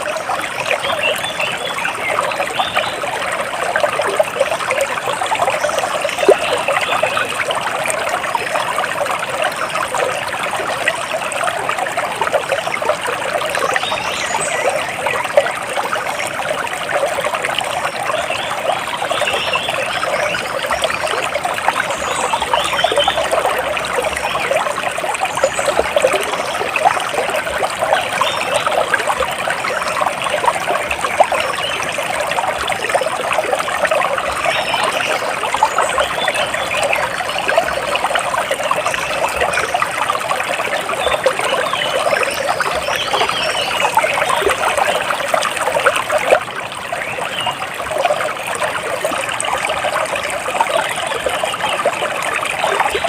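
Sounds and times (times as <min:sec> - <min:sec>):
water splashing and trickling: 0:00.0 - 0:53.0.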